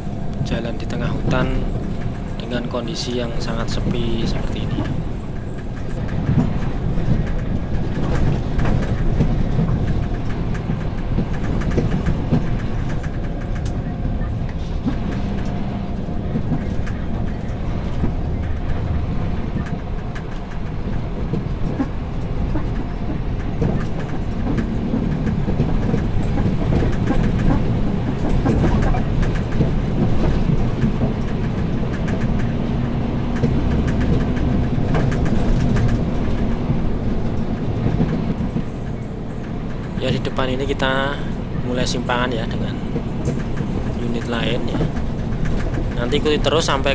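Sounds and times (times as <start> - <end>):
truck rattles and knocks: 0.0 - 46.9.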